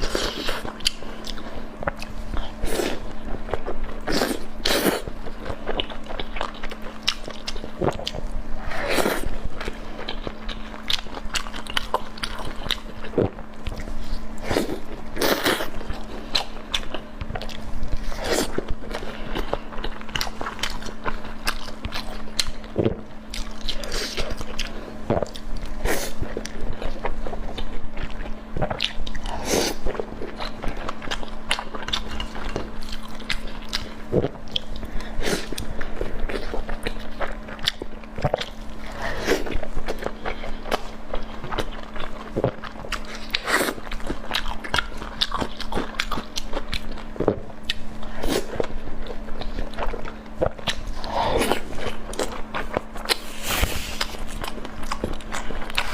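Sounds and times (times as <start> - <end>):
person biting and chewing food: 0.0 - 55.9
steady low hum: 0.0 - 55.9.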